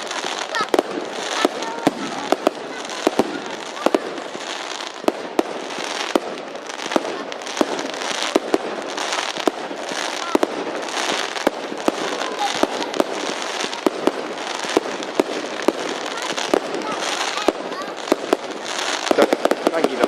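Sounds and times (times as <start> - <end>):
fireworks cracking and banging: 0.0 - 20.0
fireworks hissing crackle: 0.0 - 20.0.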